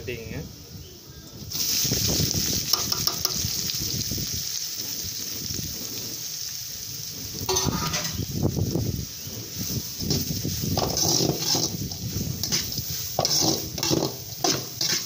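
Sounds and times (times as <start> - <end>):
onions sizzling in hot oil: 0.5 - 15.0.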